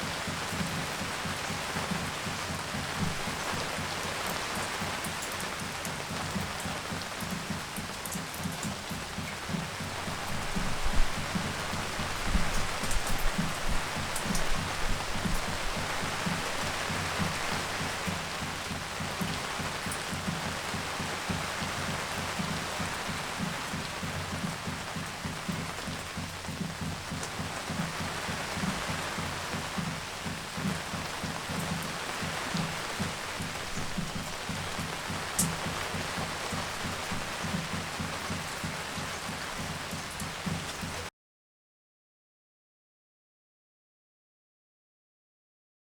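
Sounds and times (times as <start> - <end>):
rain hissing: 0.0 - 41.1
raindrops tapping on hard surfaces: 0.0 - 41.1.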